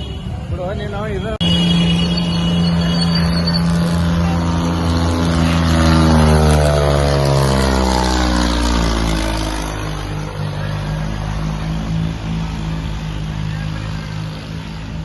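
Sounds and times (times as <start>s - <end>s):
tractor engine running hard: 1.4s - 15.0s.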